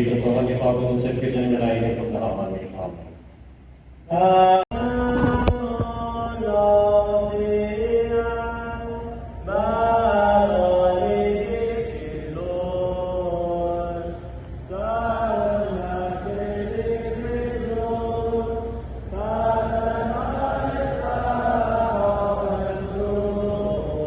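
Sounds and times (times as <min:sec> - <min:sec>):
group chanting a prayer: 0:00.0 - 0:02.6, 0:04.1 - 0:24.0.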